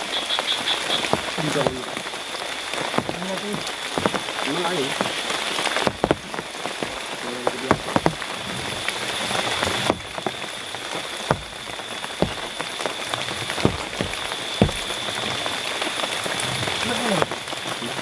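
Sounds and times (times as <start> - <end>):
big raindrops striking nearby: 0.0 - 18.0
heavy rain falling: 0.0 - 18.0.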